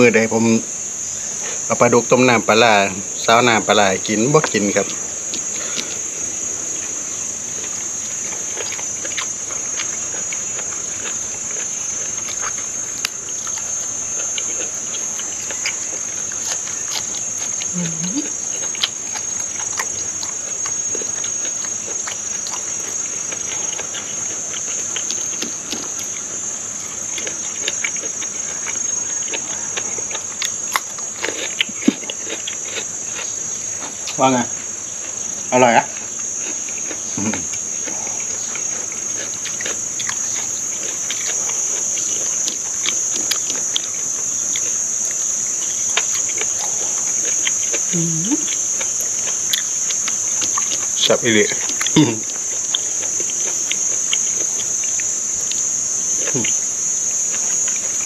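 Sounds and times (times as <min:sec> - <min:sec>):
insects trilling: 0:00.0 - 0:58.0
person chewing food: 0:03.3 - 0:58.0.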